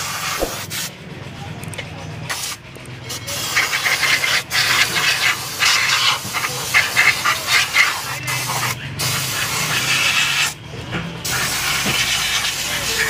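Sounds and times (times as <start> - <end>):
pressure sprayer hissing onto metal: 0.0 - 0.9, 2.3 - 10.6, 11.2 - 13.0.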